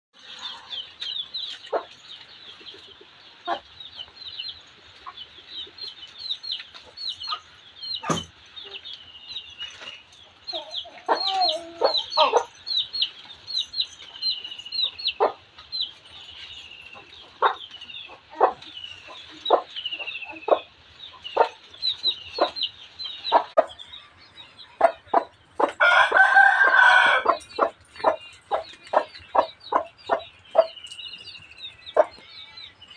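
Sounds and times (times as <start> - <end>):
chickens clucking: 0.2 - 32.9
small birds chirping: 0.2 - 32.9.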